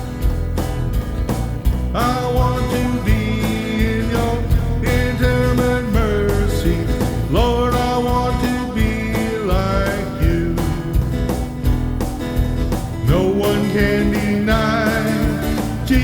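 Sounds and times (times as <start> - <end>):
band playing country music: 0.0 - 16.0
guitar: 0.0 - 16.0
steady drum beat: 0.0 - 16.0.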